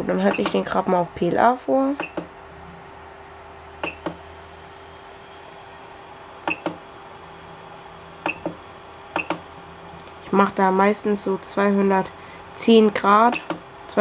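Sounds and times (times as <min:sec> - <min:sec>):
printer humming: 0:00.0 - 0:14.0.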